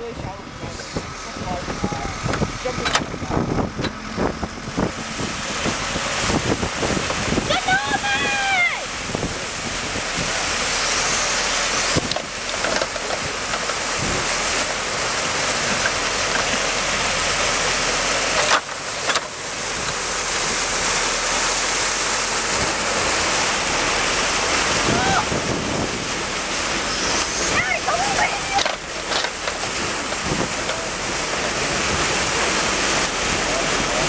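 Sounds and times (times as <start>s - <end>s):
backhoe diesel engine running: 0.0s - 34.0s
water rushing through dam breach: 0.0s - 34.0s.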